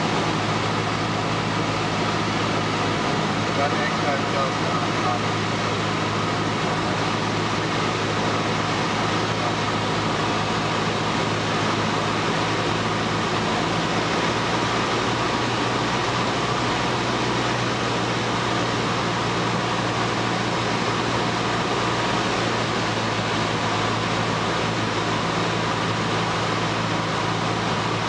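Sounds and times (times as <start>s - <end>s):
small plane engine drone: 0.0s - 28.0s.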